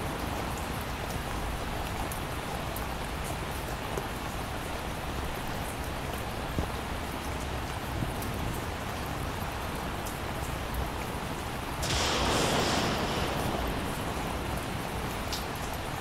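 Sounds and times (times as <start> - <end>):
raindrop taps: 0.0 - 9.2, 10.0 - 16.0
heavy rain hiss: 0.0 - 16.0.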